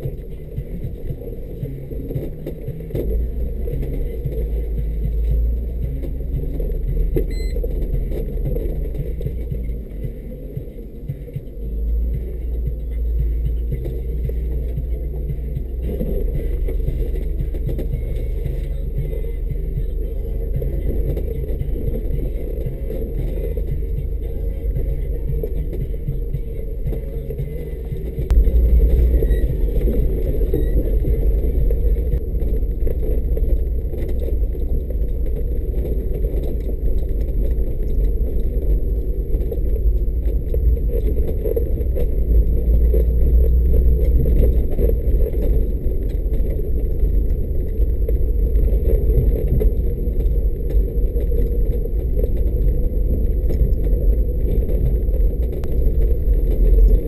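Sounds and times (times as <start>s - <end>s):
engine low rumble: 0.0s - 57.0s.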